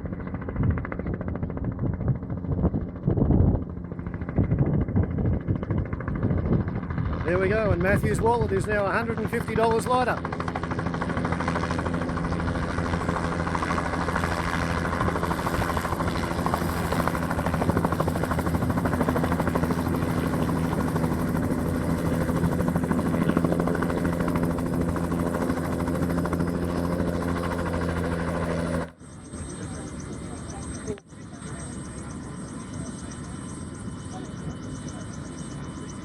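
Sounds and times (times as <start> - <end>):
helicopter rotor chop: 0.0 - 36.0.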